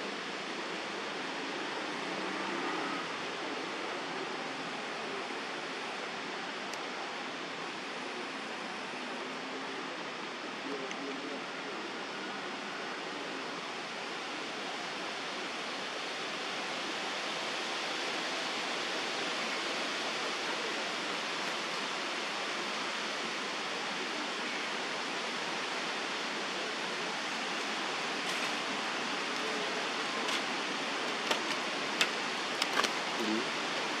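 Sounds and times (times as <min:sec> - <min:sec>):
outdoor background hiss: 0:00.0 - 0:34.0.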